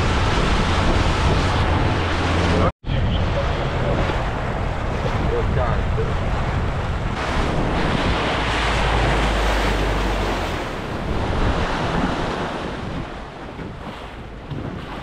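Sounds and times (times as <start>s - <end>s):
motorboat engine rumble: 0.0s - 15.0s
water rushing along hull: 0.0s - 15.0s
wind buffeting microphone: 0.0s - 15.0s.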